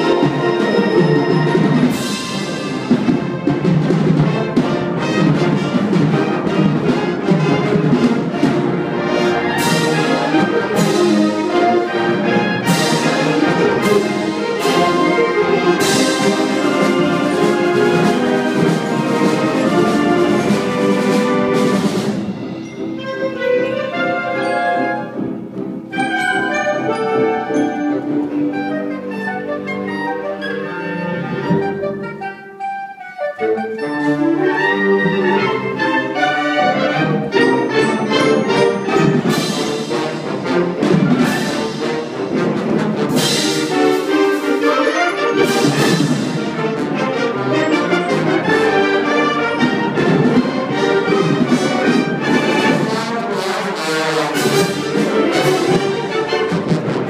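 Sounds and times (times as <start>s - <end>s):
wind band playing chords: 0.0s - 57.0s.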